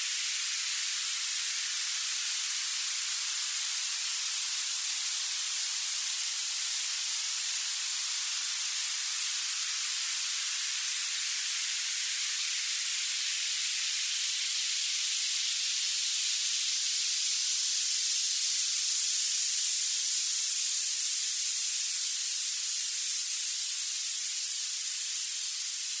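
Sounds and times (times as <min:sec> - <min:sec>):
thin high-pitched hiss: 0:00.0 - 0:26.0.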